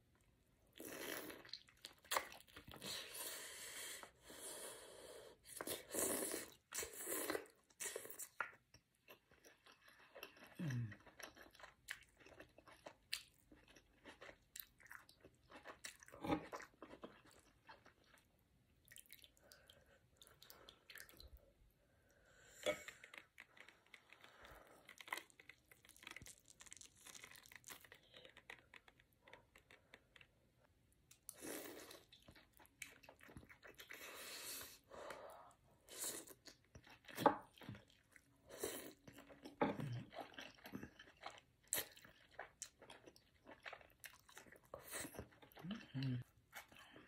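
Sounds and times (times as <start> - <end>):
person chewing crab meat: 0.8 - 3.2, 5.5 - 21.4, 22.7 - 30.5, 31.1 - 47.0.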